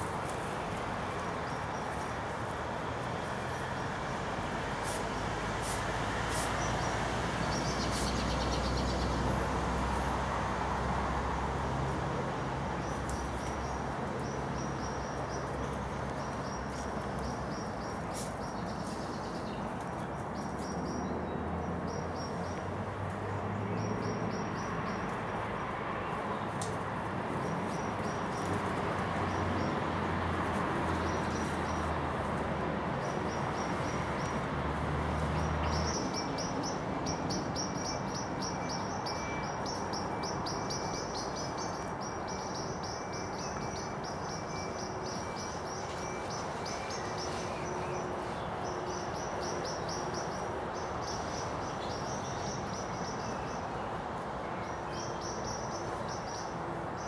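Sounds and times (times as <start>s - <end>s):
small birds chirping: 4.8s - 10.0s, 12.7s - 57.0s.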